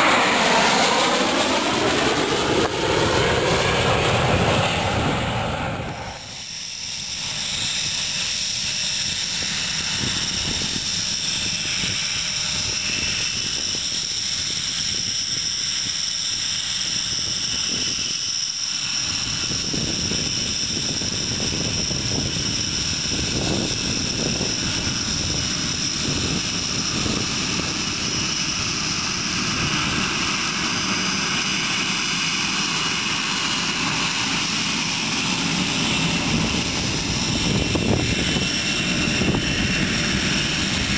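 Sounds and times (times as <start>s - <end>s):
aircraft engines running: 0.0s - 40.9s
high-pitched whine: 0.0s - 40.9s.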